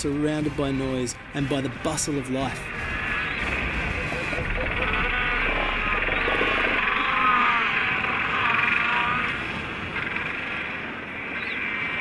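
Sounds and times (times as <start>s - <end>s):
penguin colony calling: 0.2s - 10.7s.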